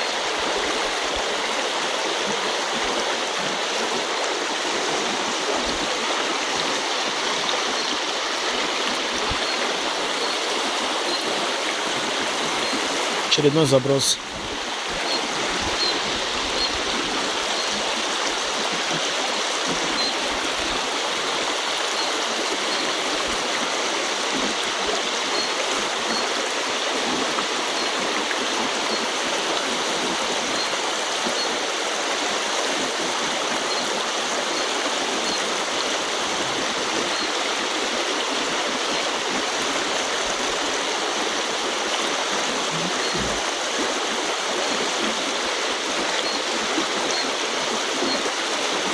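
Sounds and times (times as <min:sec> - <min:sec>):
river running over stones: 0:00.0 - 0:48.9.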